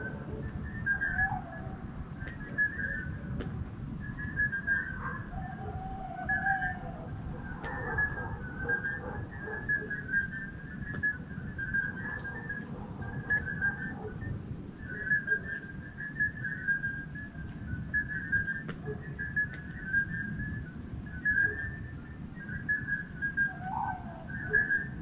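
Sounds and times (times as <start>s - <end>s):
animals calling with whistled notes: 0.0s - 25.0s.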